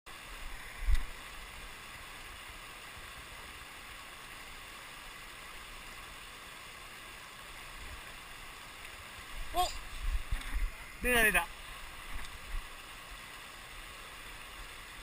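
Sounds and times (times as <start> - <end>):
stream rushing over rocks: 0.1 - 15.0.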